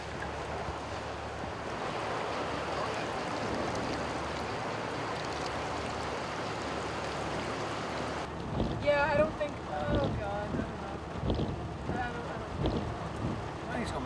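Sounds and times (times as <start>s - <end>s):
floodwater rushing with debris: 0.0s - 14.0s.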